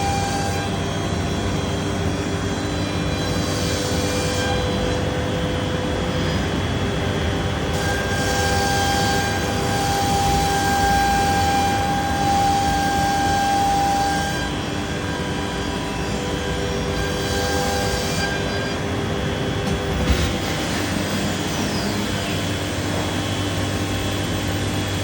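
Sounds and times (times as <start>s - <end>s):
spindle whine: 4.4s - 25.0s.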